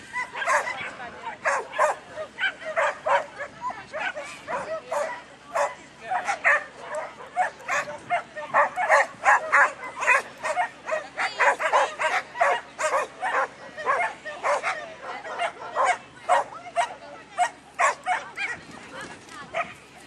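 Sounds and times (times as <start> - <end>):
dog yapping barks: 0.2 - 18.6.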